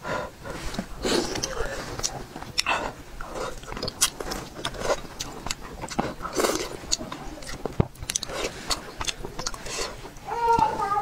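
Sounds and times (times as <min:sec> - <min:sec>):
wet chewing and smacking: 0:00.4 - 0:10.3.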